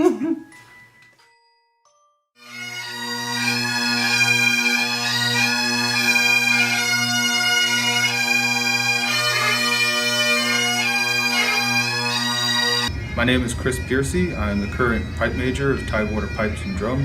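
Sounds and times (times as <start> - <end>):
bagpipe chanter melody: 2.4 - 17.0
bagpipe drones humming: 2.4 - 17.0.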